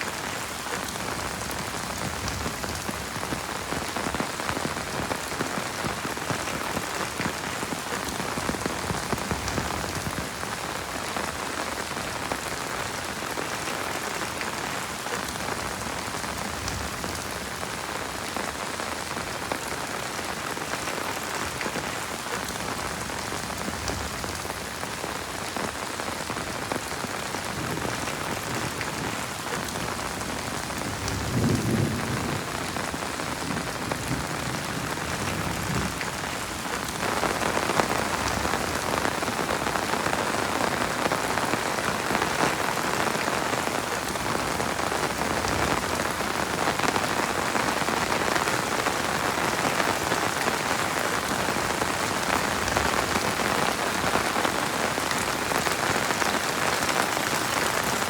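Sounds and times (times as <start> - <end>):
heavy rain patter: 0.0 - 58.0.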